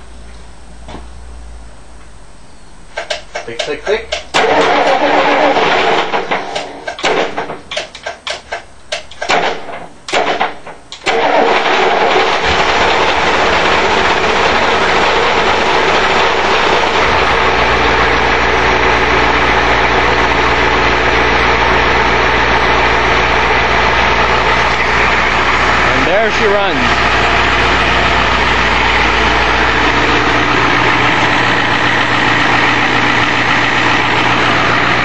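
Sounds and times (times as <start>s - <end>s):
diesel engine running: 0.0s - 35.0s
diesel engine cranking: 2.8s - 35.0s.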